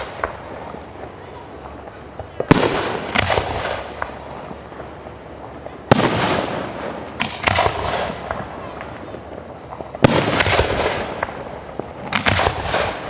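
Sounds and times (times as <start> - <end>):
fireworks bursting with bangs: 0.0 - 13.0.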